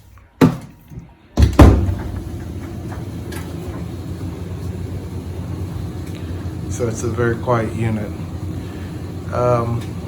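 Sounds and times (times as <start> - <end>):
clothes dryer humming: 1.0 - 10.0.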